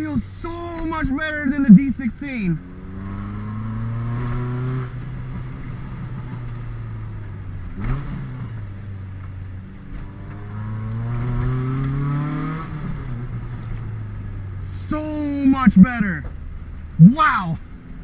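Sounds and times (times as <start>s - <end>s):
car engine revving: 0.8s - 18.0s.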